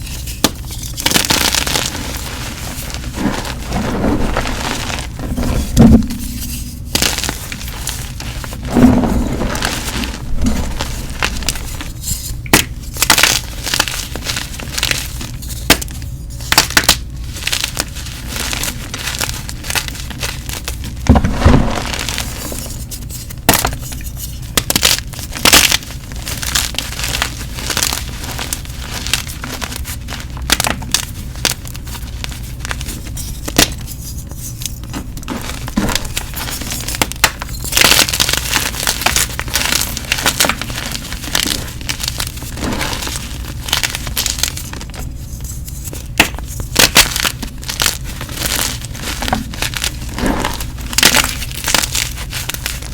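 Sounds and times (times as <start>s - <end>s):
chalk crunching and crumbling: 0.0s - 52.9s
steady low hum: 0.0s - 52.9s.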